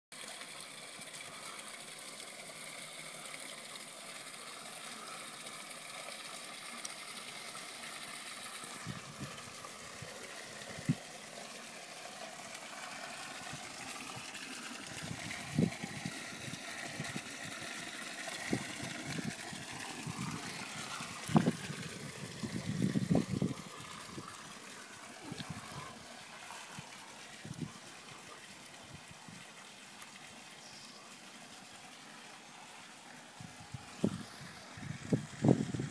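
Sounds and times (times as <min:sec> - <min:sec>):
water splashing into pond: 0:00.1 - 0:35.9.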